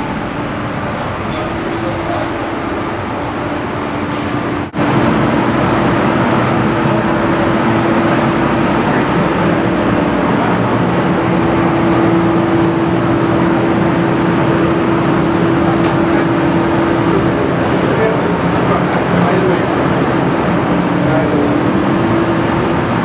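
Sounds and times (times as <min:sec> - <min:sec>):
railcar ventilation hum: 0:00.0 - 0:23.0
steady tone: 0:00.0 - 0:23.0.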